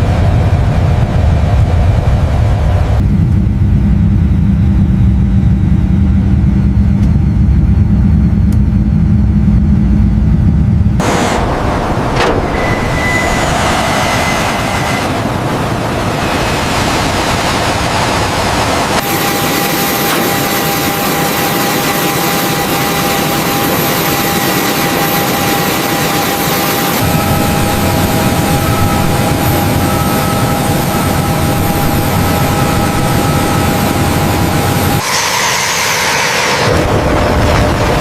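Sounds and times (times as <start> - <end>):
jet engine rushing with whine: 0.0 - 38.0.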